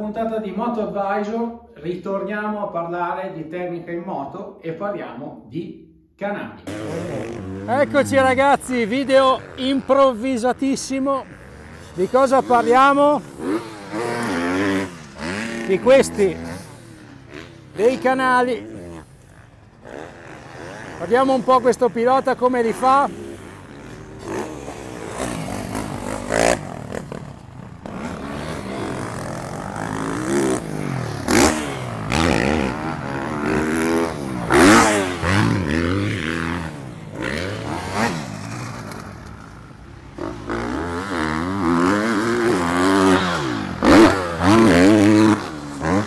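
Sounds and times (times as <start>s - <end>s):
motorbike engines revving: 6.7s - 46.0s.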